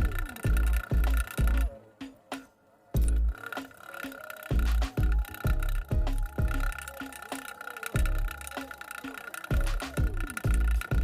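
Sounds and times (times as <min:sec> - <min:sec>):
electronic music with bass beat: 0:00.0 - 0:11.0.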